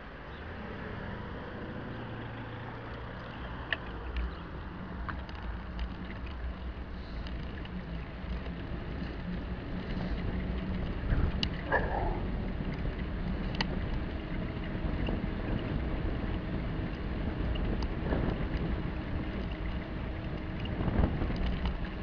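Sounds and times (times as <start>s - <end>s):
wind rushing over microphone: 1.0s - 22.0s
faint bicycle clicks: 2.2s - 22.0s.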